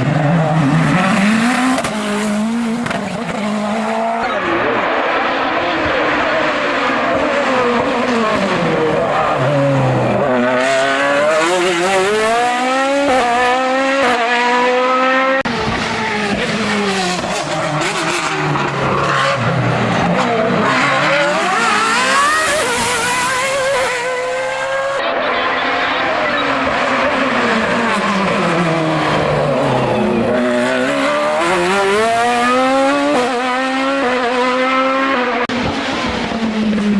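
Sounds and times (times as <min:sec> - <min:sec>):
race car engine revving: 0:00.0 - 0:36.9.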